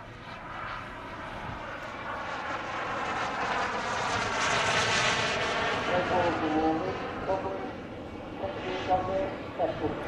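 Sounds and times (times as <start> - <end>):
model jet turbines whining: 0.8 - 10.0.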